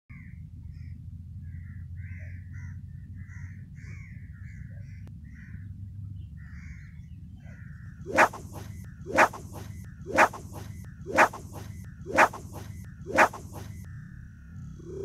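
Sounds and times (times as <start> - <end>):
birds calling: 0.1 - 14.0.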